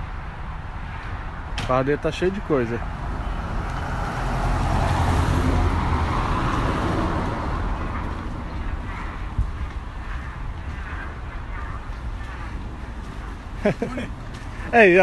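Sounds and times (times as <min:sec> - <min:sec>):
vehicle passing by: 0:00.7 - 0:15.0.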